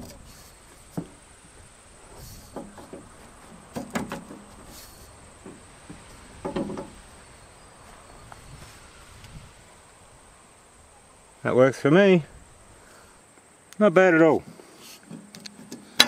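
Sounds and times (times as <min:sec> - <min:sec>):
high insect chirr: 0:00.0 - 0:16.0.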